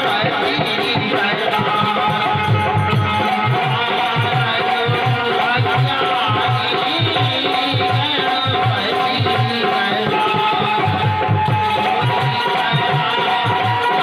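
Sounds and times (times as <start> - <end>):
hand drums beating fast rhythm: 0.0 - 14.0.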